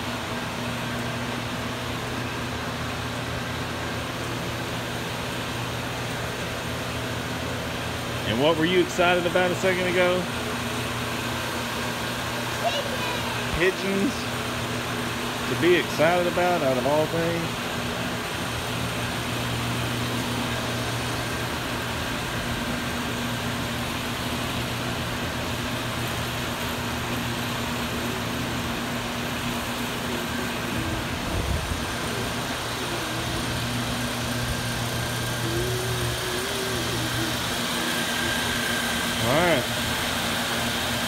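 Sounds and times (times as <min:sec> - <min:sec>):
ventilation fans humming: 0:00.0 - 0:41.0.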